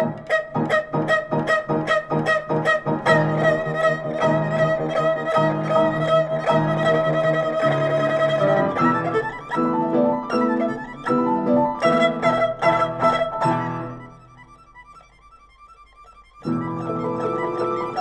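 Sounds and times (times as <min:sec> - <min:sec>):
piano chords: 0:00.0 - 0:15.1, 0:16.4 - 0:18.0
erhu bowed notes: 0:00.0 - 0:18.0.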